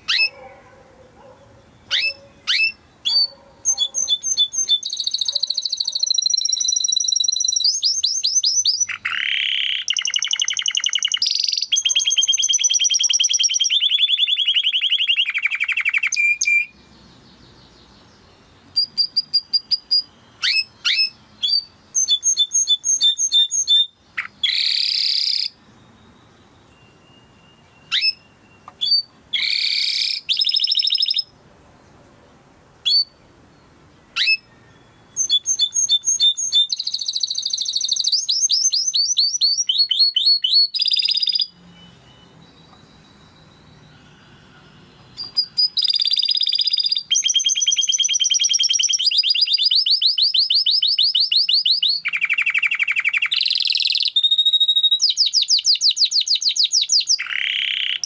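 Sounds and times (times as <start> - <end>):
canary singing: 0.0 - 31.4, 32.8 - 58.0.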